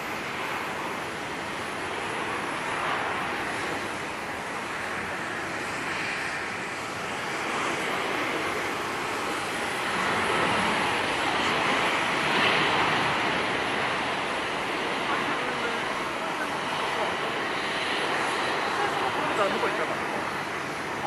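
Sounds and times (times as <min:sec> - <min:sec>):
jet airliner engines: 0:00.0 - 0:21.0.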